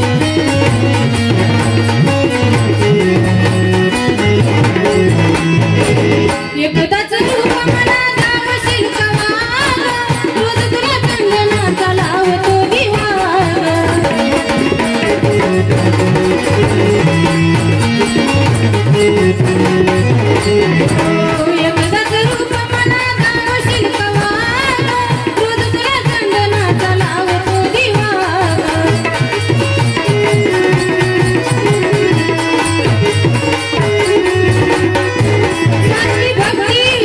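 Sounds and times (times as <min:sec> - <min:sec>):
drum accompaniment: 0:00.0 - 0:37.0.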